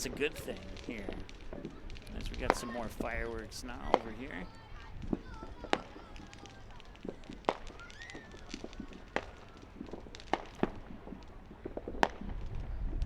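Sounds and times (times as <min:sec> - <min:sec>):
fireworks popping and cracking: 0:00.0 - 0:13.0.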